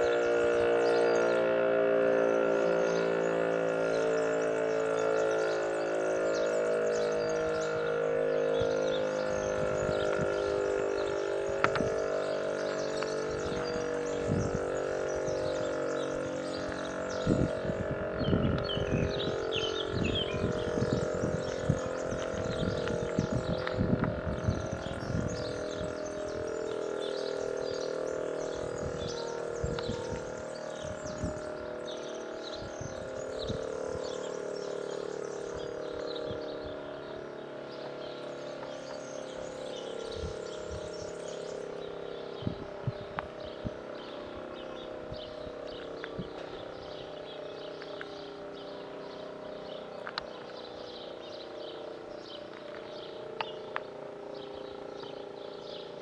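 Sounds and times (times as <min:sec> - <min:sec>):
small birds chirping: 0:00.0 - 0:56.0
steady droning tone: 0:00.0 - 0:56.0.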